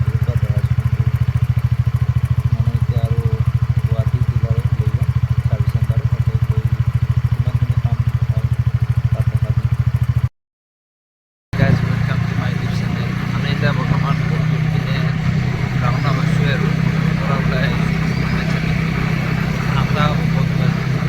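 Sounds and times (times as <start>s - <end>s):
engine ticking noise: 0.0s - 10.3s, 11.6s - 21.0s
scooter engine idling: 0.0s - 10.3s, 11.6s - 21.0s.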